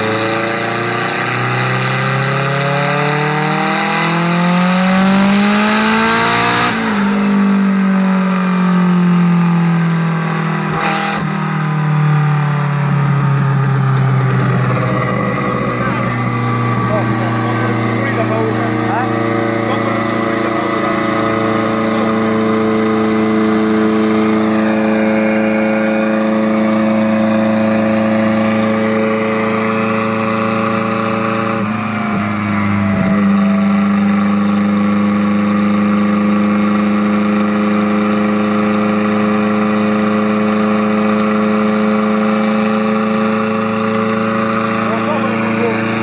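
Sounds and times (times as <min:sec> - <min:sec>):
car engine running steadily: 0:00.0 - 0:46.0.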